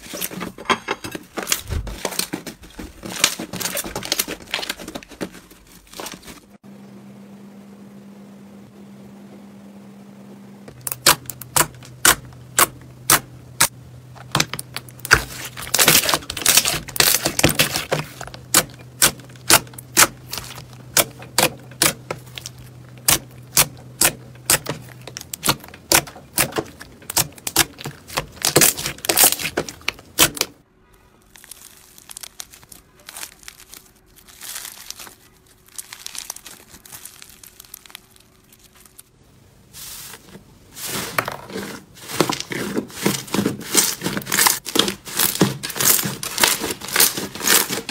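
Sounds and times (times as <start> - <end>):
low steady hum: 0.0 - 47.9
foam slime crackling: 1.4 - 6.6, 10.7 - 30.6, 31.2 - 39.1, 39.7 - 47.9.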